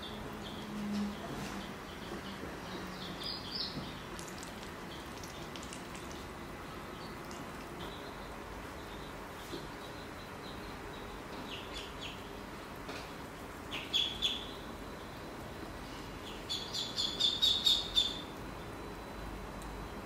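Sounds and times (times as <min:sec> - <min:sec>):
duckling peeping: 0:00.0 - 0:12.4, 0:13.6 - 0:15.1, 0:16.2 - 0:18.3.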